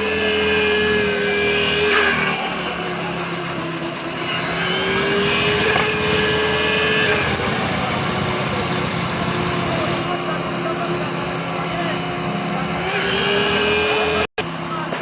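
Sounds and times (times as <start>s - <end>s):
motor running: 0.0s - 15.0s.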